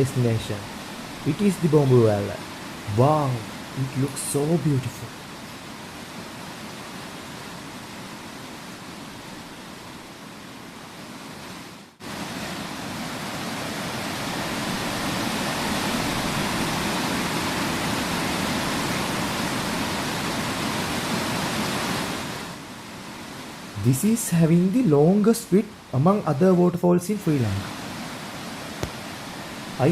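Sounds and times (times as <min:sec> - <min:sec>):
waterfall rushing: 0:00.0 - 0:10.0, 0:11.2 - 0:29.9.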